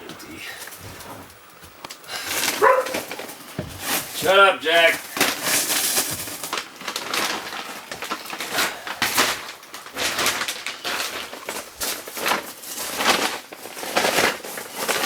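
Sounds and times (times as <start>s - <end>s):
objects knocking: 0.0s - 15.0s
objects rustling and scraping: 0.0s - 15.0s.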